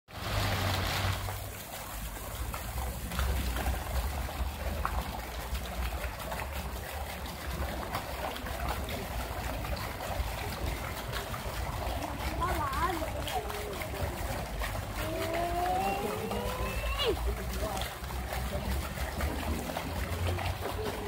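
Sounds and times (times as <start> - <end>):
fountain water splashing: 0.1 - 21.0.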